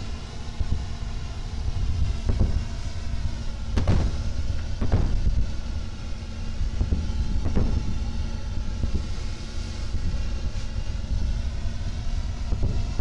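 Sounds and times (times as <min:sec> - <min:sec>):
faint hum: 0:00.0 - 0:13.0
low rumble: 0:00.0 - 0:13.0.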